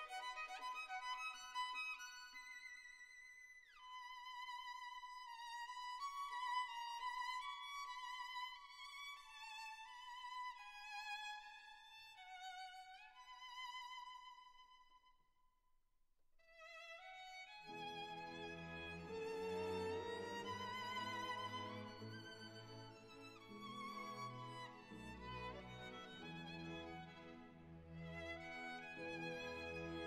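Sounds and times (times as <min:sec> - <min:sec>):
slow solo violin melody: 0:00.0 - 0:14.7, 0:16.5 - 0:30.0.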